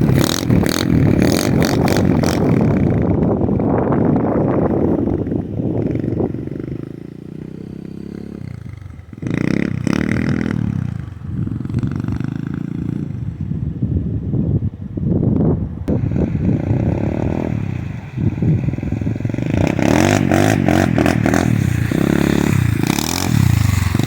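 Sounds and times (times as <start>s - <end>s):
pit bike engine revving: 0.0s - 13.2s, 15.9s - 24.0s.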